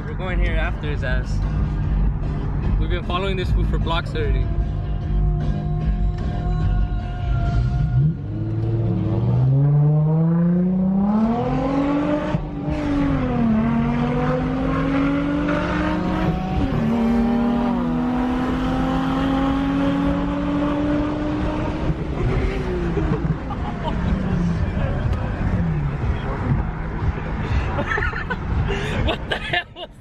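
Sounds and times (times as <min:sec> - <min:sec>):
car engine accelerating hard: 0:01.2 - 0:28.7.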